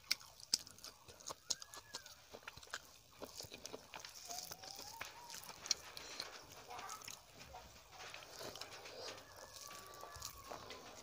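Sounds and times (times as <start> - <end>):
chewing and wet mouth clicks: 0.0 - 7.3, 8.1 - 11.0
faint pitched calls: 0.8 - 2.6, 3.8 - 11.0.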